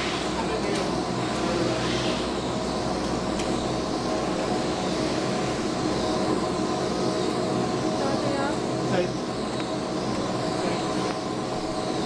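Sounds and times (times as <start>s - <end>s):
cable car machinery humming: 0.0s - 12.0s.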